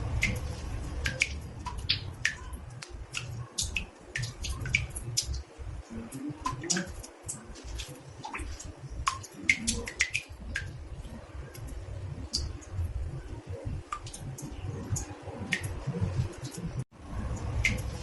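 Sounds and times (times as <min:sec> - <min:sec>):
water drops dripping into bathtub: 0:00.0 - 0:18.0.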